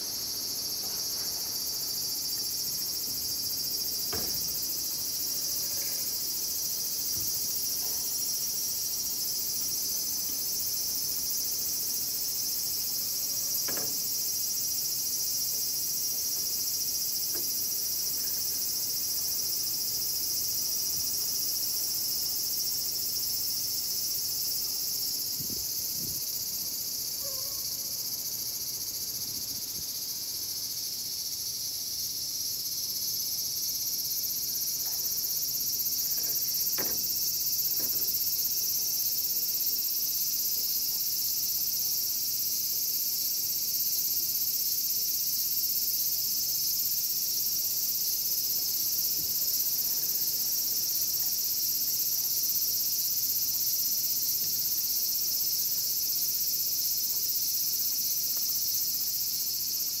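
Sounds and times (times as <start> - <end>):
cicadas droning: 0.0 - 60.0.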